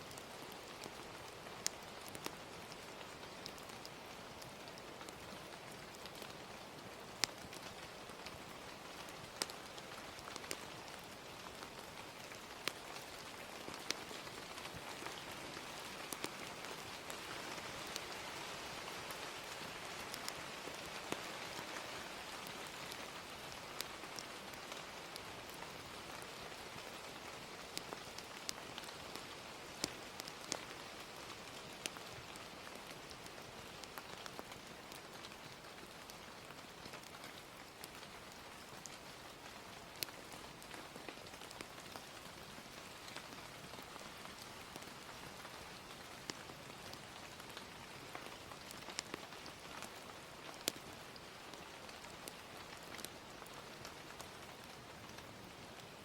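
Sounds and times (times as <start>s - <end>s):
rain hiss: 0.0s - 56.0s
wood fire crackling: 0.1s - 56.0s.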